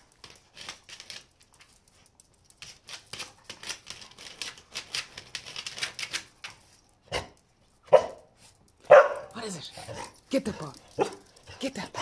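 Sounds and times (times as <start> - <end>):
dog claws scratching on ball: 0.0 - 7.5, 8.1 - 12.0.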